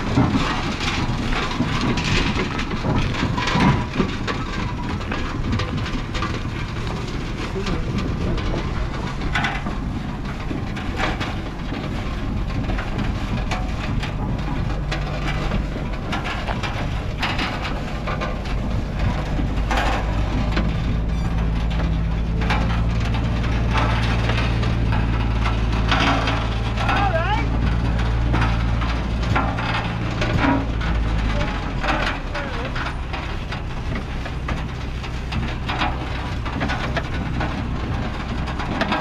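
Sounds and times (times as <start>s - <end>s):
steam engine low hum: 0.0s - 39.0s.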